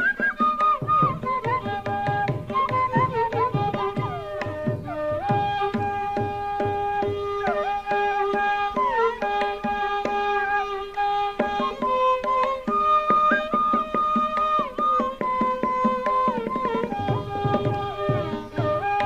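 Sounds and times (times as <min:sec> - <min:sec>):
bamboo flute playing: 0:00.0 - 0:19.0.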